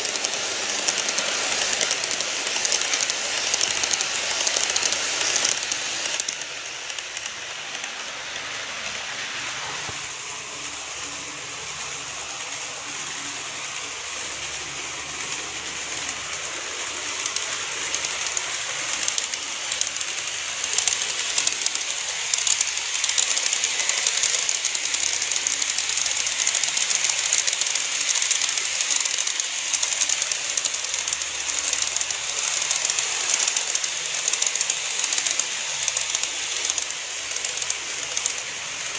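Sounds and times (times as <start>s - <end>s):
fine rapid clicking of wheels: 0.0s - 8.5s, 9.8s - 38.9s
model train wheels hissing on rails: 0.0s - 38.9s.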